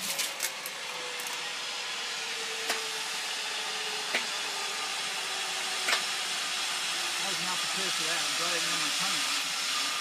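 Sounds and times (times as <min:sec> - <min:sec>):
zip line trolley whirring: 0:00.0 - 0:10.0.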